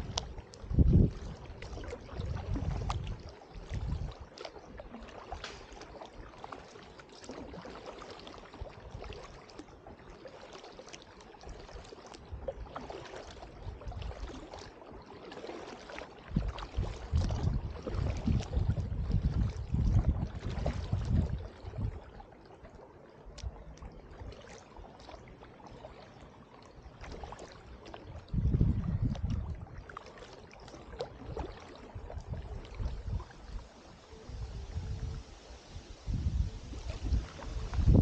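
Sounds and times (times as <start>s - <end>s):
kayak paddle strokes: 0.0s - 38.0s
water splashing and dripping: 0.0s - 38.0s.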